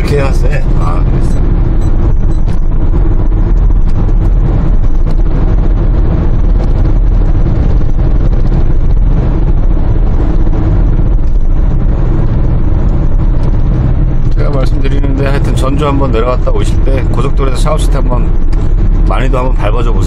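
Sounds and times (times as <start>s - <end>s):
road tyre and engine noise: 0.0s - 20.0s.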